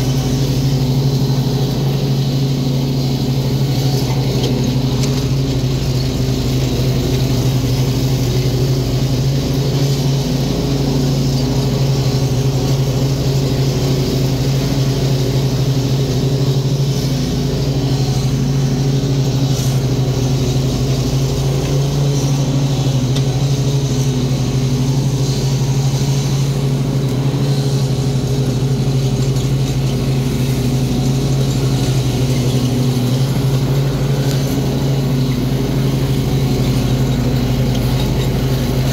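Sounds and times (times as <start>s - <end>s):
riding mower engine running: 0.0s - 38.9s.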